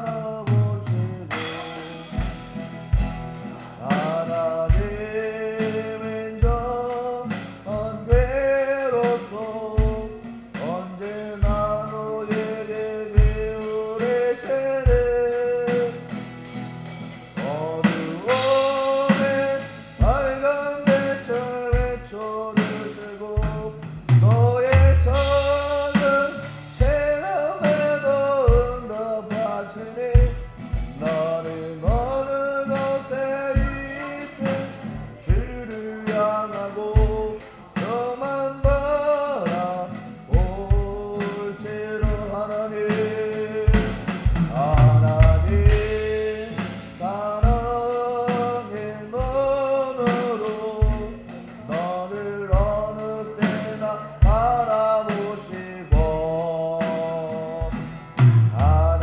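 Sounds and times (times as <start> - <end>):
acoustic guitar strumming: 0.0 - 59.0
man singing: 0.0 - 59.0
electronic drum beat: 0.4 - 59.0.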